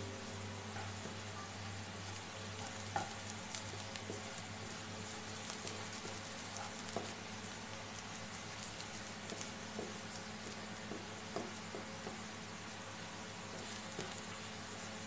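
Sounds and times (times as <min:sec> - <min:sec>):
garlic sizzling in hot oil: 0:00.2 - 0:15.0.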